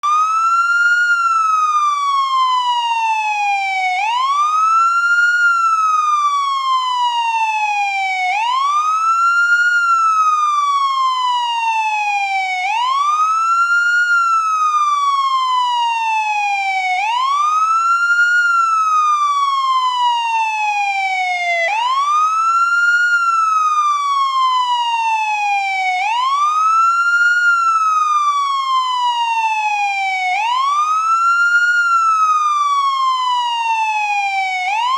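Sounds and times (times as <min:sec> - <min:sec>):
police siren wailing: 0:00.0 - 0:34.9.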